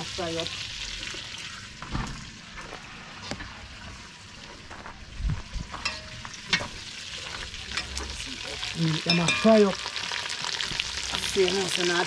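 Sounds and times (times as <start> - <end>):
meat sizzling: 0.0 - 4.6, 6.1 - 12.0.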